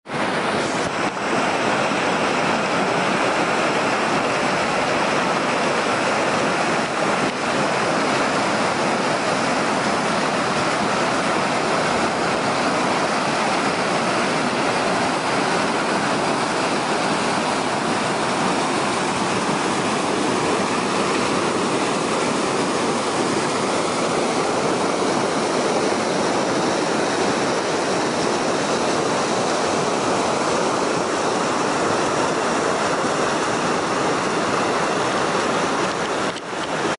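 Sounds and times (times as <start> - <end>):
stream rushing over rocks: 0.0 - 36.9.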